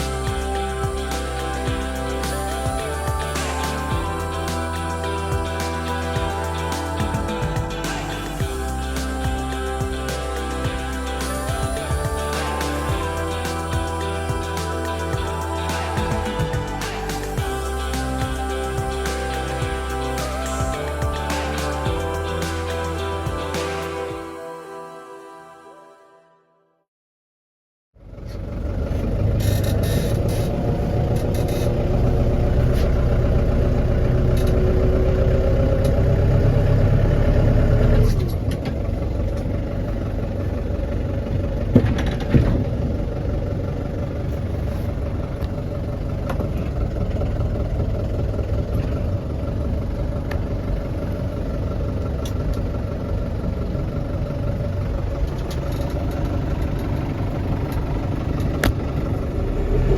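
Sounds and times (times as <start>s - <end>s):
tractor diesel engine running: 0.0s - 24.3s, 28.0s - 59.9s.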